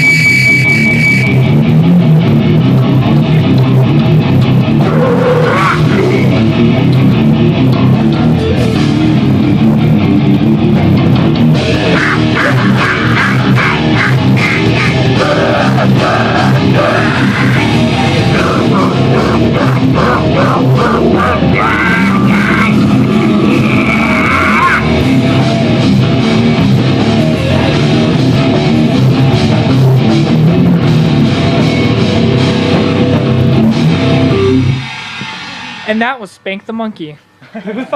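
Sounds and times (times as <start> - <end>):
loud electric guitar rock music: 0.0 - 36.2.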